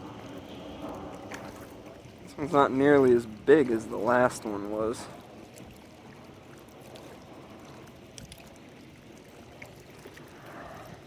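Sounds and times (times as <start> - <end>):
river water lapping: 0.0 - 11.0.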